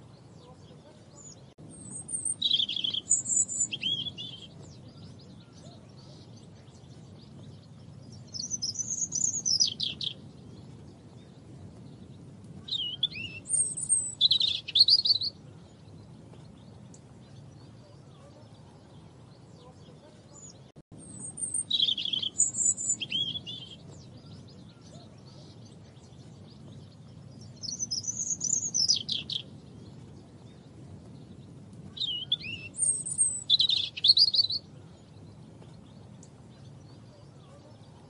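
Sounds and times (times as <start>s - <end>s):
faint low background noise: 0.0s - 38.0s
robin singing: 0.0s - 38.0s.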